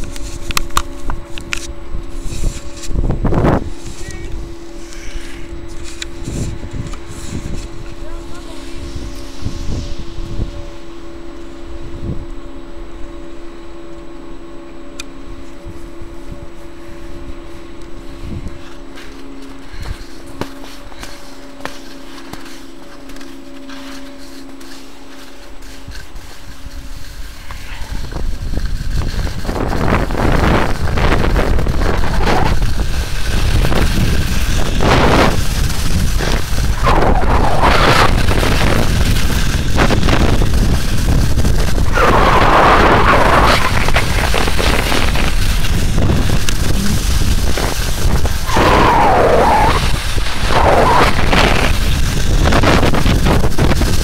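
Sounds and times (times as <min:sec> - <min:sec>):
skis swishing through snow: 0:00.0 - 0:11.6, 0:15.5 - 0:54.0
wind on microphone: 0:00.0 - 0:12.4, 0:15.4 - 0:18.9, 0:25.6 - 0:54.0.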